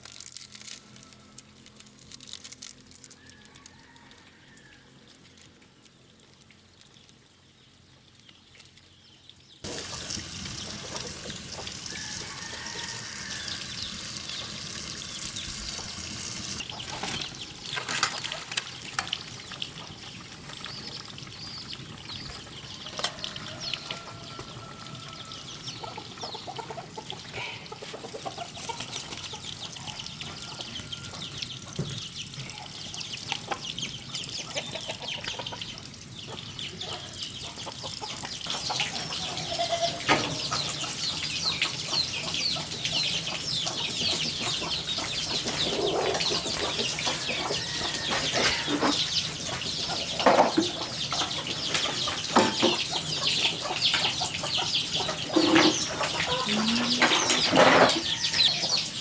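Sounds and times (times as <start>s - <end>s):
chickens clucking: 9.6s - 59.0s.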